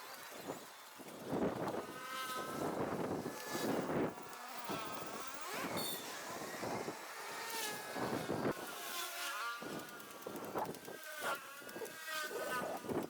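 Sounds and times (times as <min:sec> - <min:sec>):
small petrol engine buzzing: 0:00.0 - 0:13.0.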